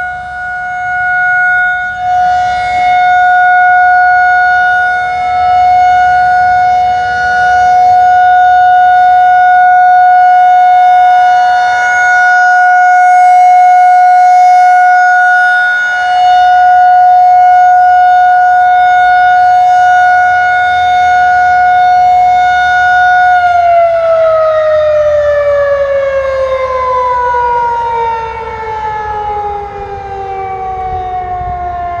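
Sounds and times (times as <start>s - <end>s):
warning siren steady tone: 0.0s - 32.0s.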